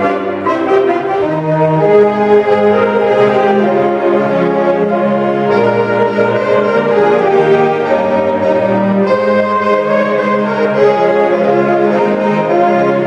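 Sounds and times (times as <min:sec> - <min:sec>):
saxophone ensemble playing: 0:00.0 - 0:13.0.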